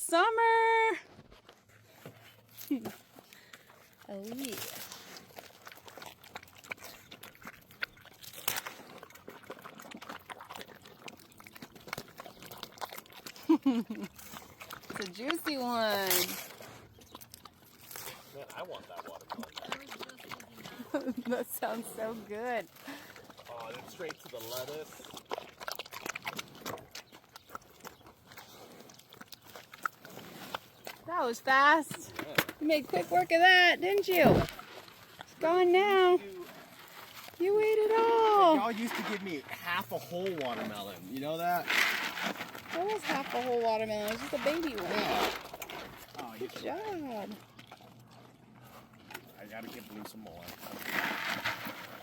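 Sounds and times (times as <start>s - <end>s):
animal chewing watermelon: 0.4s - 52.0s.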